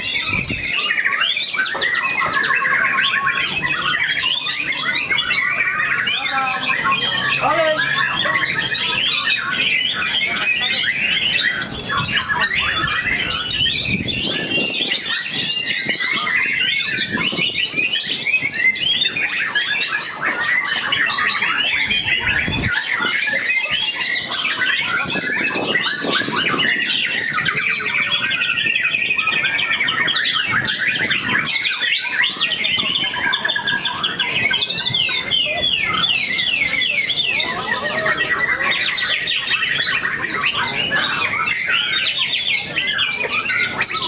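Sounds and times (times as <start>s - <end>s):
birds singing with chirps and trills: 0.0s - 44.0s.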